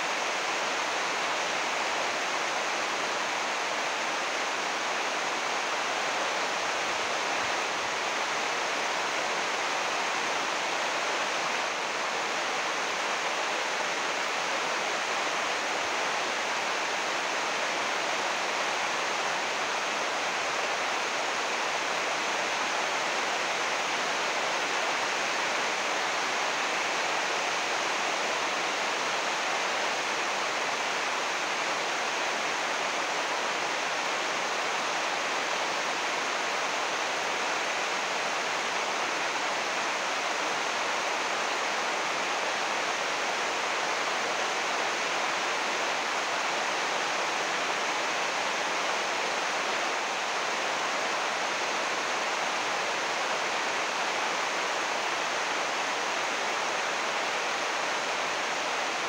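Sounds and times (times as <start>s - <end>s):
heavy rain on plastic roof: 0.0s - 59.0s.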